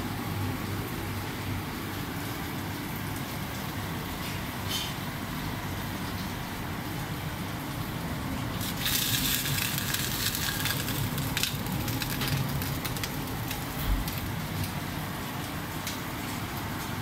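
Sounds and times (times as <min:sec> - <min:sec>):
dishwasher humming: 0:00.0 - 0:17.0
loud hissing crackling noise: 0:02.8 - 0:17.0.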